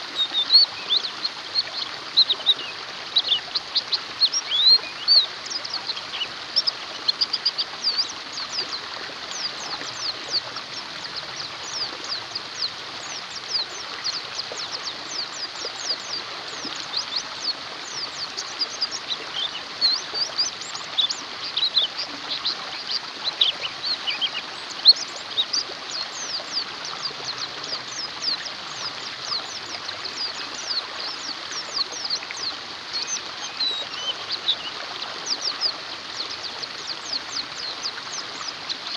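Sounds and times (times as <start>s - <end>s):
birds chirping and twittering: 0.0s - 38.9s
stream flowing: 0.0s - 38.9s.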